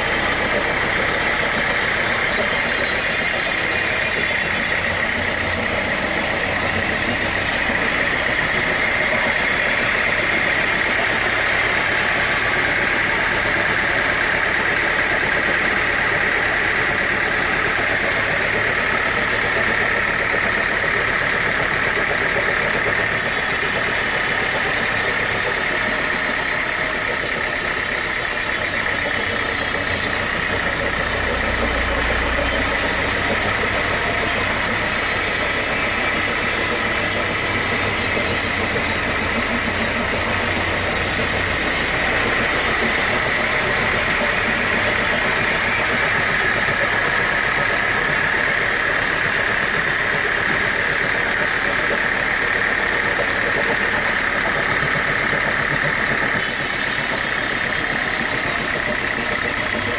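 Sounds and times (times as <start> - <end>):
saw cutting through log: 0.0 - 59.9
sawmill saw whining: 0.0 - 59.9.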